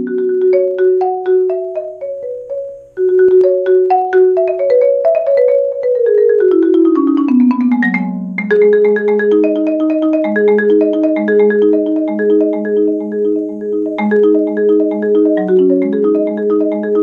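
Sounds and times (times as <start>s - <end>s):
marimba played with mallets: 0.0s - 17.0s.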